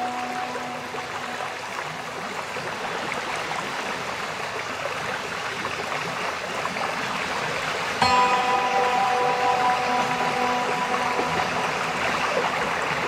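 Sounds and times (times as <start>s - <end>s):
water trickling and bubbling: 0.0s - 13.0s.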